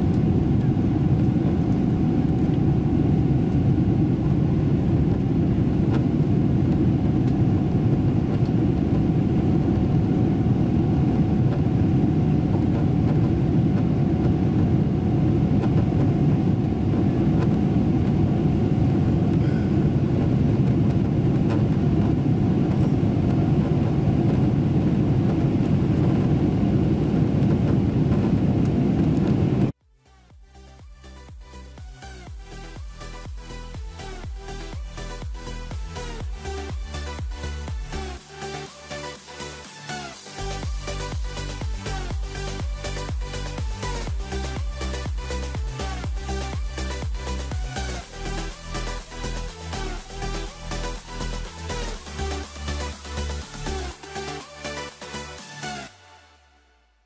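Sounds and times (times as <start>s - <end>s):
aircraft cabin low rumble: 0.0s - 38.2s, 40.4s - 54.0s
faint steady whine: 0.0s - 56.4s.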